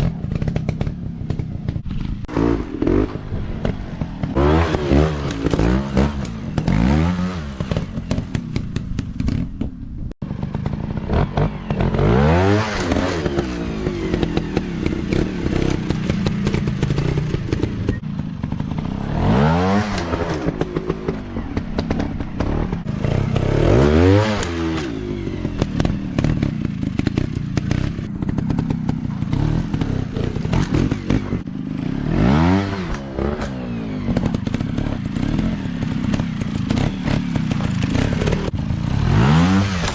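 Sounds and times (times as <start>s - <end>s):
dirt bike engines revving: 0.0s - 9.4s, 10.2s - 39.9s.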